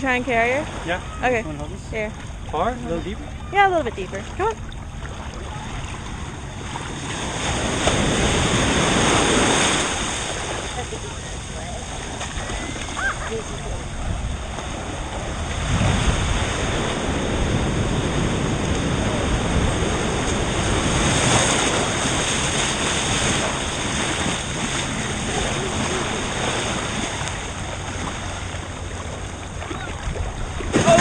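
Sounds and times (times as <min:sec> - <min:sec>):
ocean surf sloshing: 0:00.0 - 0:31.0
wind on microphone: 0:00.0 - 0:31.0.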